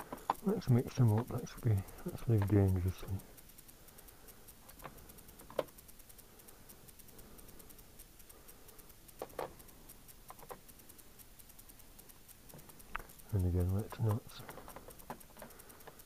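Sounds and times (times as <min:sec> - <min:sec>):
small parts clicking and knocking: 0:00.0 - 0:16.0.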